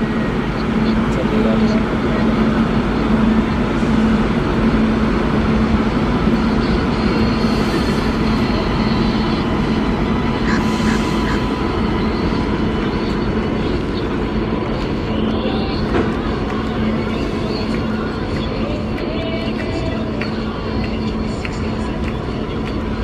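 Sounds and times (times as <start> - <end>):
low hum: 0.0 - 23.0
train wheels rumbling on rails: 0.0 - 23.0.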